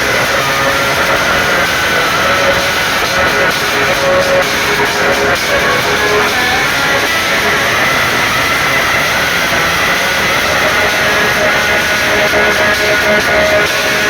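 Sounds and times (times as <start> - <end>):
loud music over sound system: 0.0 - 14.0.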